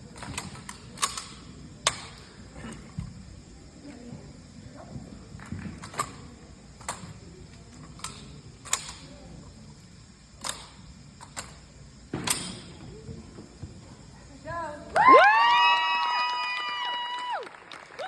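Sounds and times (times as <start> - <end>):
faint crowd murmur: 0.0 - 15.0.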